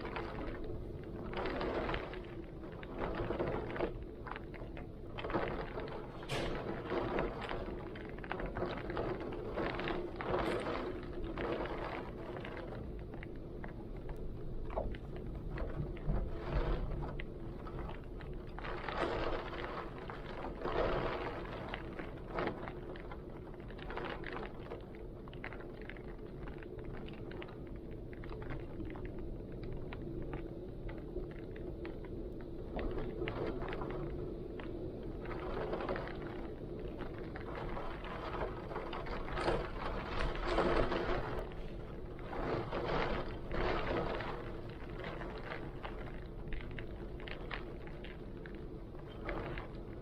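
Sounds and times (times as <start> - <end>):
heavy rain patter: 0.0 - 50.0.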